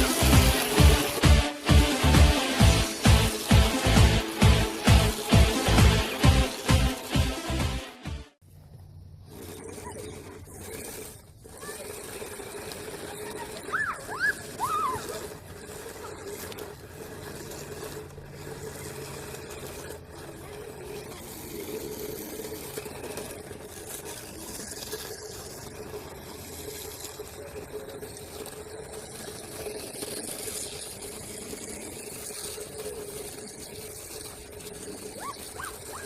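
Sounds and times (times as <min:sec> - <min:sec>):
toy car electric motor whine: 0:00.0 - 0:07.8, 0:08.9 - 0:36.0.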